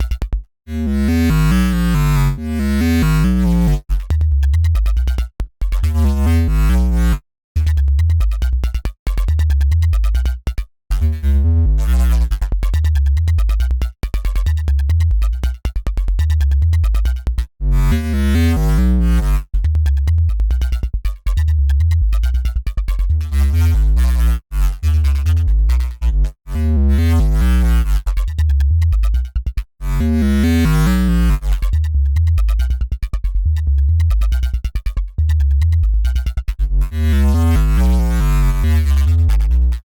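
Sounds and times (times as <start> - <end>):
synth bass riff: 0.0 - 39.9.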